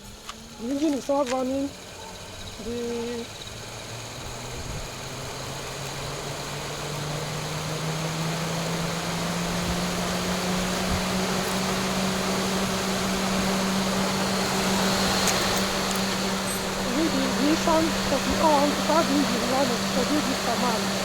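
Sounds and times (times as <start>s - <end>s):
electric cooling fan humming: 0.0s - 21.0s.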